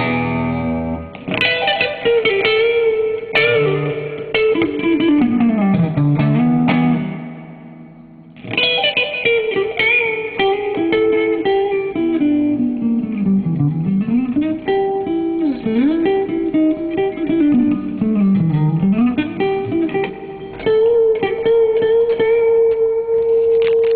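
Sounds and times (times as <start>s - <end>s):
electric guitar picking: 0.0s - 23.9s.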